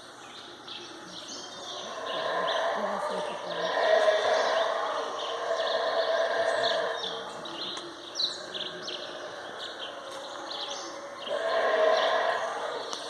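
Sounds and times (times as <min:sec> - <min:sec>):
birds chirping: 0:00.0 - 0:13.0
howler monkeys roaring: 0:01.0 - 0:13.0.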